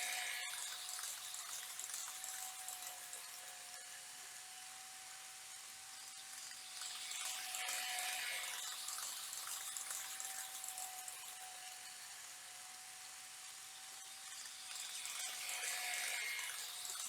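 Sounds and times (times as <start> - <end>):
model train motor whine: 0.0 - 17.0.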